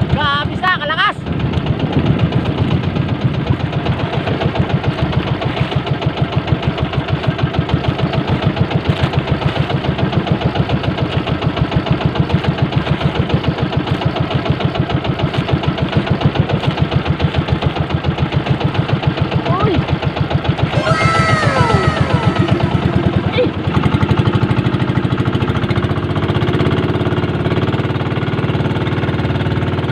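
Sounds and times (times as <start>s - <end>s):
small boat engine running: 0.0s - 29.9s.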